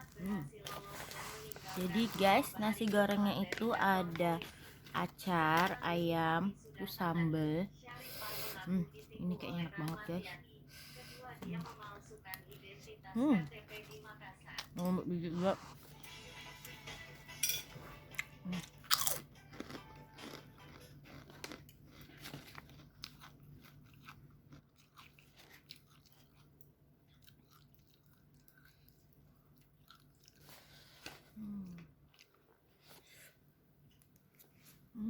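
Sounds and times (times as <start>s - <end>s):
chewing and crunching food: 0.0s - 6.0s, 11.3s - 34.9s.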